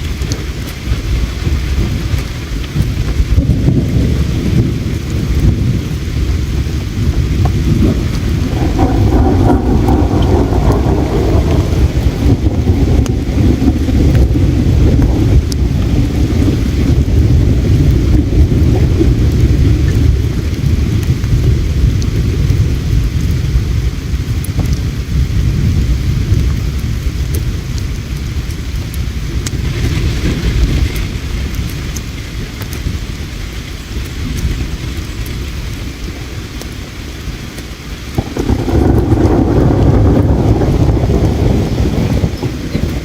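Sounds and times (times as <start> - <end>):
campfire crackle: 0.0 - 43.0
river water rumbling: 0.0 - 43.0.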